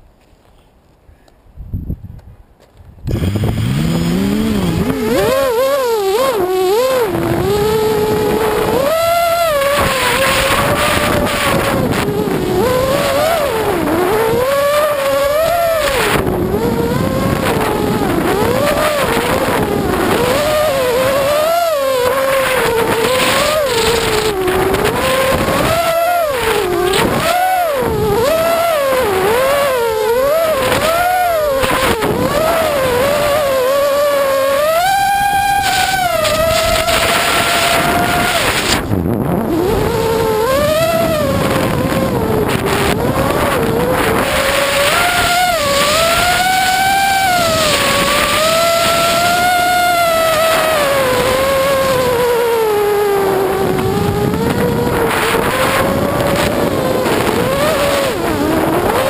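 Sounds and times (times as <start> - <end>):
model car motor revving: 3.1 - 59.0.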